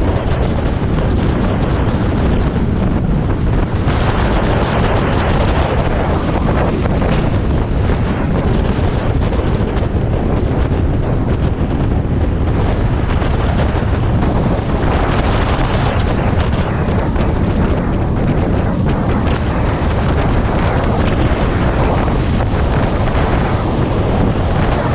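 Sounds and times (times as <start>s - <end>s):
wind rushing over microphone: 0.0s - 24.9s.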